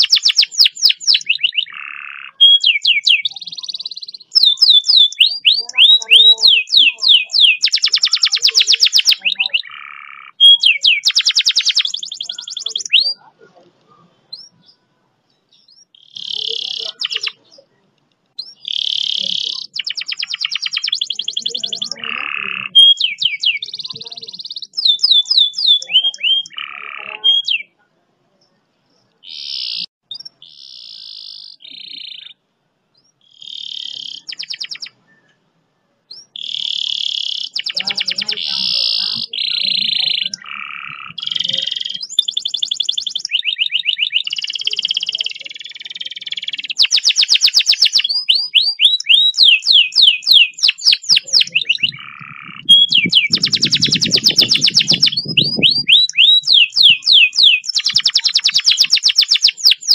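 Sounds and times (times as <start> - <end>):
canary singing: 0.0 - 27.8, 28.4 - 59.9.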